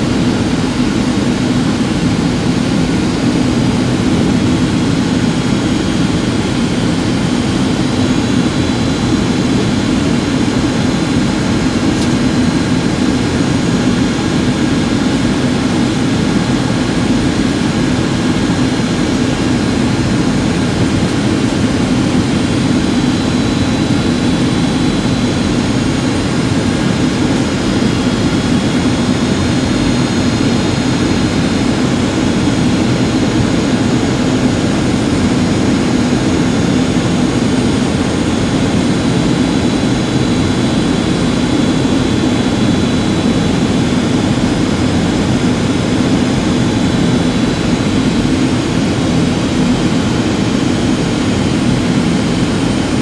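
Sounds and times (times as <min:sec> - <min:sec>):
jet engines and rushing air: 0:00.0 - 0:53.0.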